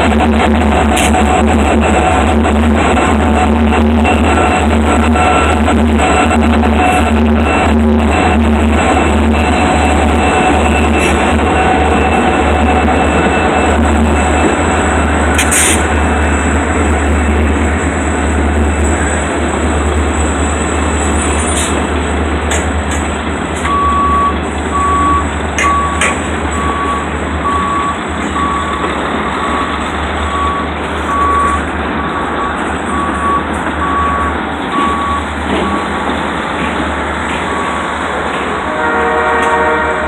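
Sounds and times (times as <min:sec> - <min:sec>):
freight train rumbling past: 0:00.0 - 0:40.0
train clanks: 0:00.0 - 0:40.0.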